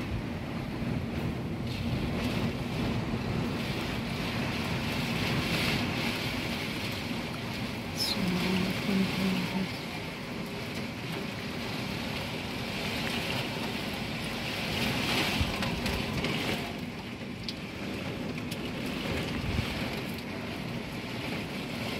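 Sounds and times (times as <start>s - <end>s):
strong wind and heavy rain: 0.0s - 21.9s
wind buffeting microphone: 0.0s - 21.9s.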